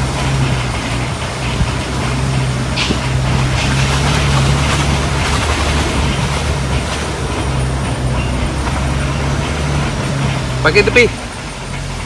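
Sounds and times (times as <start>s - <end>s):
knocks and rattles over bumps: 0.0s - 12.0s
vehicle engine running: 0.0s - 12.0s.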